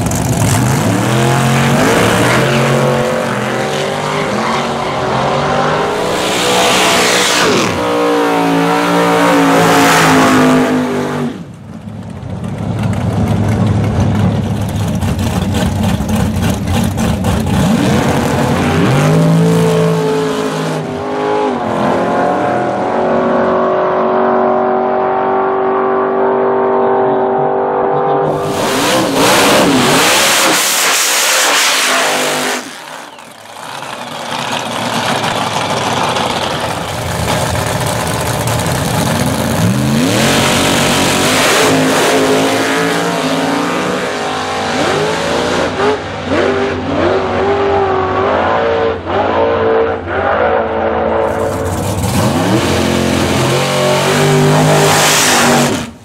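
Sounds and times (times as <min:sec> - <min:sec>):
car engine revving at start line: 0:00.0 - 0:11.5, 0:14.6 - 0:33.6, 0:34.2 - 0:56.0
hard-running engine noise: 0:00.0 - 0:20.7, 0:28.2 - 0:48.2, 0:51.1 - 0:56.0
drag racing car engine revving: 0:00.0 - 0:56.0.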